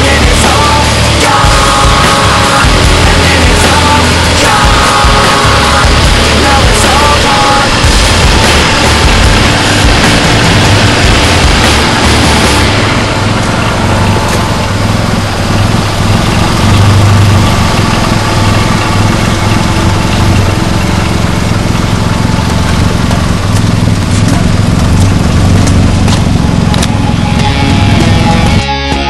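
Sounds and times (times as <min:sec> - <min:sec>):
car engine exhaust at low revs: 0:00.0 - 0:28.7.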